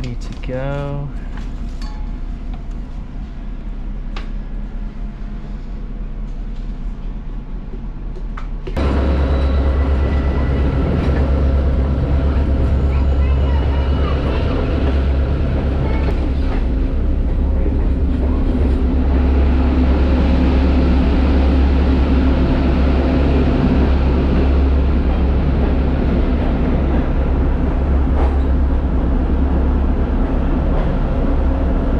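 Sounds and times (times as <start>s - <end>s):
train rumbling on track: 0.0s - 31.9s.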